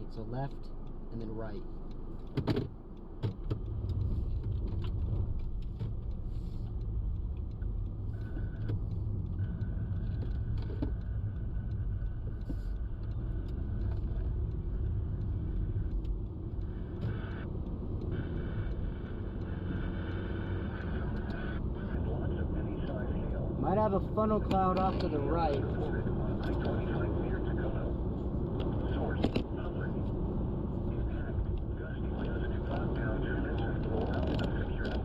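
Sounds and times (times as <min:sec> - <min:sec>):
car driving rumble inside cabin: 0:00.0 - 0:35.0.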